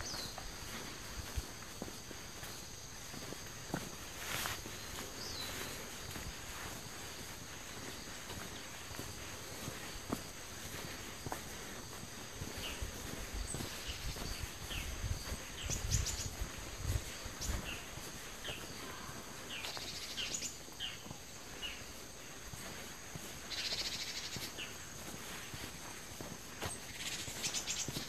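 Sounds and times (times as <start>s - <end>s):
insect drone: 0.0s - 28.0s
small birds chirping: 0.0s - 28.0s.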